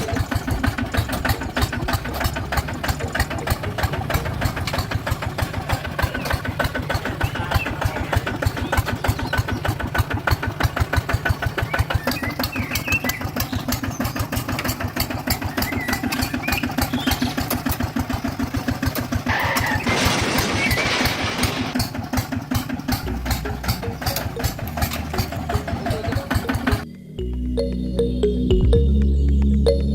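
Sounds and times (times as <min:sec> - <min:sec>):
toy tractor engine chugging: 0:00.0 - 0:26.9.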